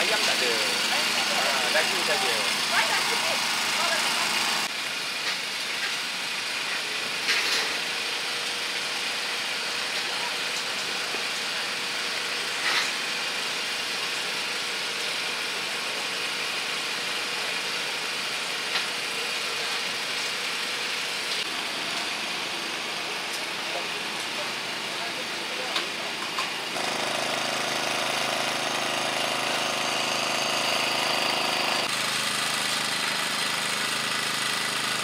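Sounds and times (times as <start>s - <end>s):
engine-like drone and hiss: 0.0s - 35.0s.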